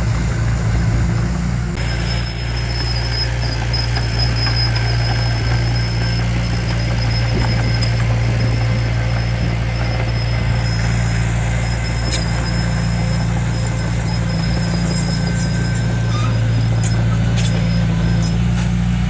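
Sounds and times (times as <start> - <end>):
diesel engine running under load: 0.0 - 19.0
sharp metallic knocks: 3.6 - 19.0.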